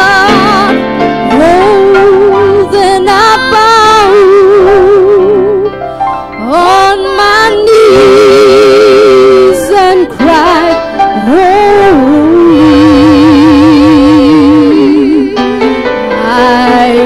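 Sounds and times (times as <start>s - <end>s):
women singing in harmony: 0.0s - 5.6s, 6.4s - 17.0s
sustained instrumental accompaniment: 0.0s - 17.0s.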